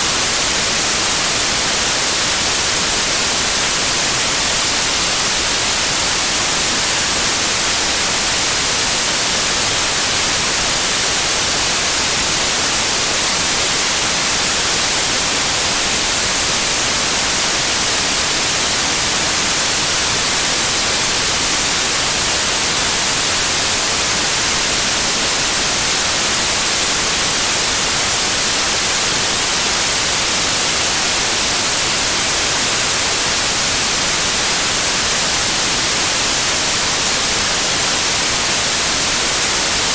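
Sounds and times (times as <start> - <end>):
bright hissing noise: 0.0 - 39.9.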